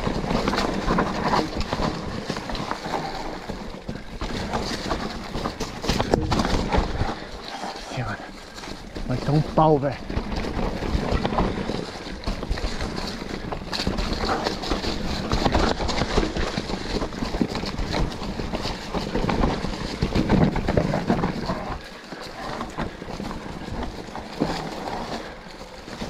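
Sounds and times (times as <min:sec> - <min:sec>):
bike knocks and rattles: 0:00.0 - 0:26.0
bike tyres rolling on dirt: 0:00.0 - 0:26.0.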